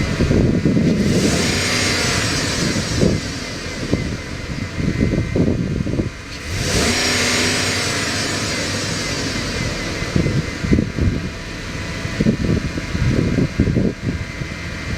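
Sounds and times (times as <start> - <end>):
high engine whine: 0.0 - 14.9
pickup truck engine revving: 0.0 - 14.9.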